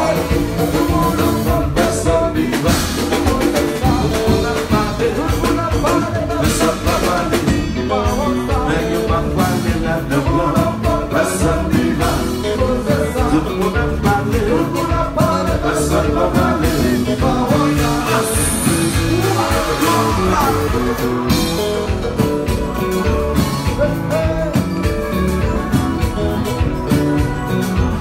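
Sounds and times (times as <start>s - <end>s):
live band playing dance beat: 0.0s - 28.0s
man singing: 0.0s - 28.0s.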